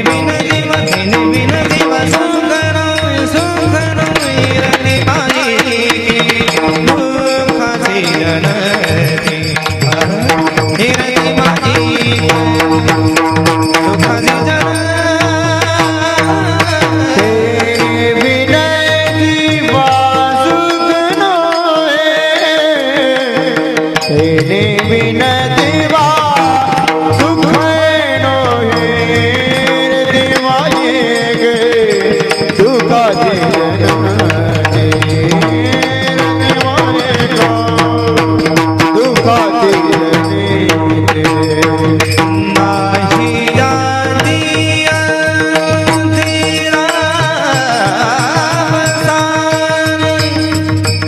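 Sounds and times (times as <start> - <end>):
devotional melody: 0.0 - 51.0
hand drum beats: 0.0 - 51.0
rapid cymbal strikes: 0.0 - 51.0.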